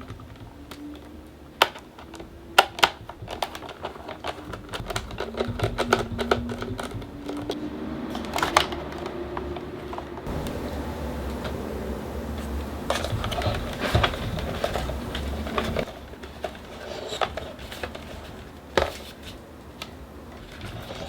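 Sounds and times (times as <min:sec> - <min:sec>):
plastic parts clicking and knocking: 0:00.0 - 0:10.6, 0:12.8 - 0:21.0.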